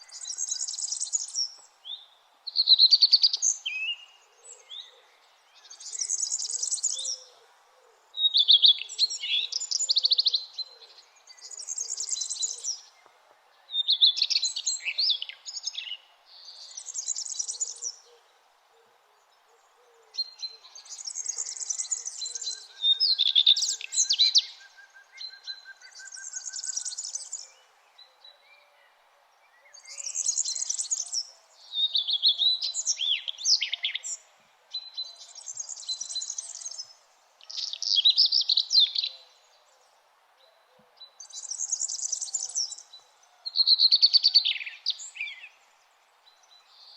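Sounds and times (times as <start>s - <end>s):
faint steady hiss: 0.0s - 46.9s
songbird singing: 0.0s - 46.9s.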